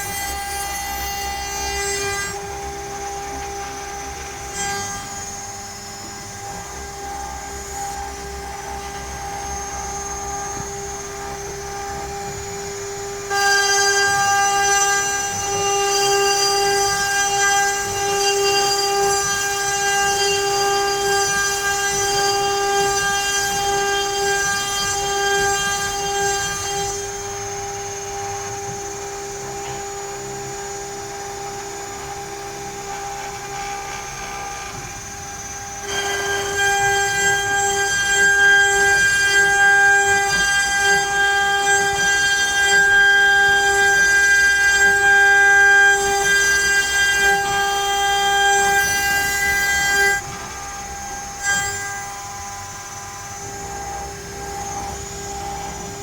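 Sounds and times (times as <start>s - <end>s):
router bit cutting wood: 0.0s - 56.0s
router spindle whining: 0.0s - 56.0s.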